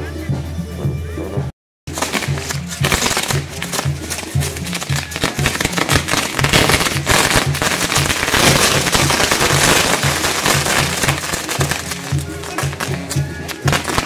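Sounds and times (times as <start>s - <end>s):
music with bass beat: 0.0s - 14.0s
firecrackers going off: 1.9s - 14.0s.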